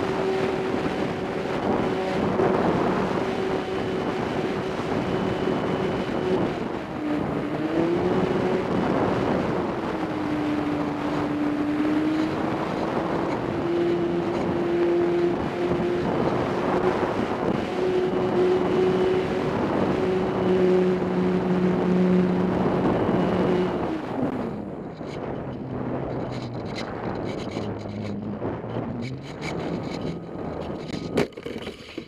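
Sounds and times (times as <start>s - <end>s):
model plane motor and propeller: 0.0s - 32.0s
wind buffeting microphone: 0.0s - 32.0s.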